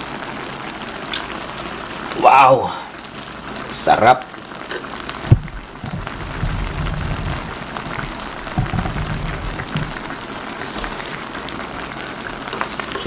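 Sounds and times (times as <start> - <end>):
broth boiling in a pan: 0.0 - 13.0.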